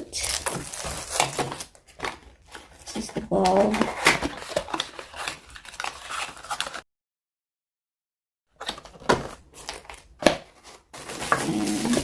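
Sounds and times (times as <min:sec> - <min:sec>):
packaging rustling: 0:00.2 - 0:06.8, 0:08.6 - 0:12.0.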